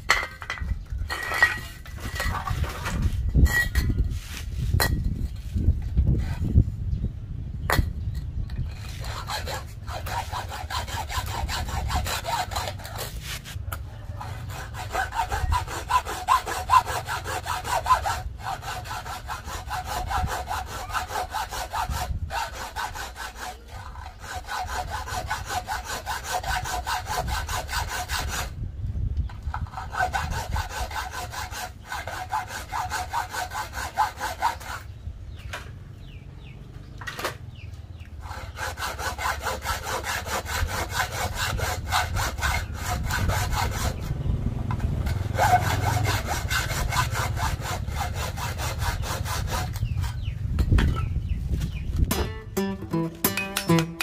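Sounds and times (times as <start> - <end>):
hacksaw cutting metal: 0.1 - 4.1, 8.6 - 28.6, 29.5 - 34.9, 38.2 - 44.1, 44.8 - 51.1, 52.1 - 54.0.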